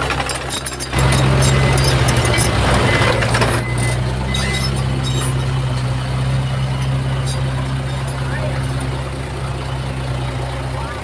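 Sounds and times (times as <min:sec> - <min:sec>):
heavy machine diesel engine: 0:00.0 - 0:11.0.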